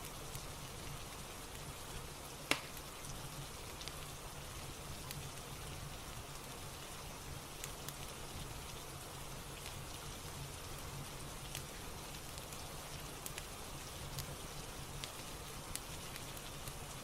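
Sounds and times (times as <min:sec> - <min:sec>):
fireplace crackling and popping: 0:00.0 - 0:17.0
steady rain: 0:00.0 - 0:17.0.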